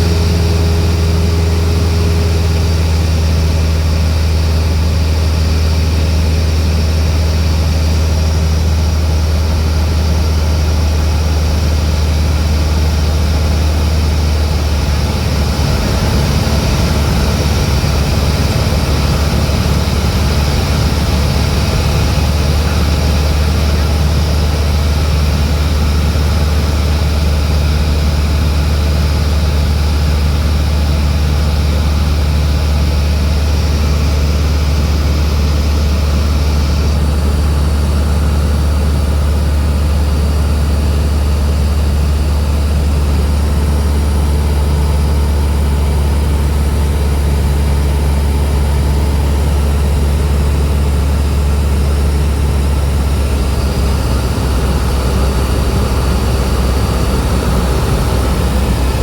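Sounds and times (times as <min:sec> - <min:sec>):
propeller engine drone: 0:00.0 - 0:59.0.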